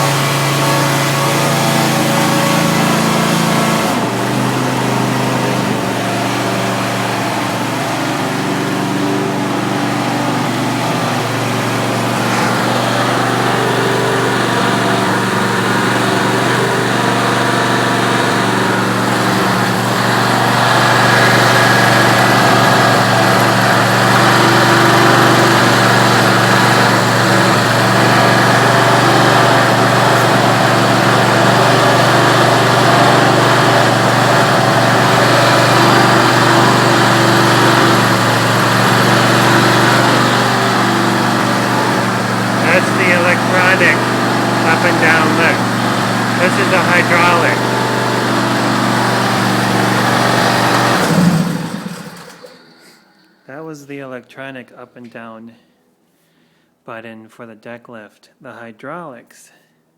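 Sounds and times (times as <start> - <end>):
garden tractor engine running: 0.0 - 52.6.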